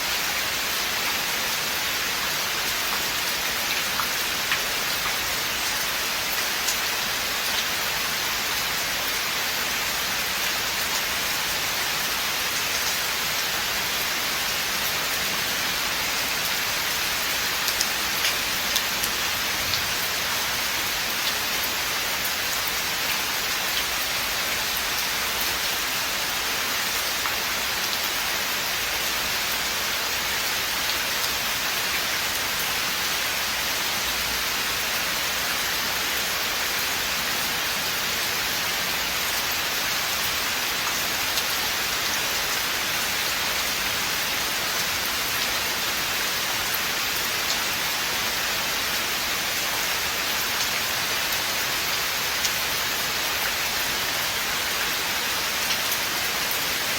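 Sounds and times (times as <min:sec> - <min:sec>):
rain falling through forest: 0:00.0 - 0:56.9.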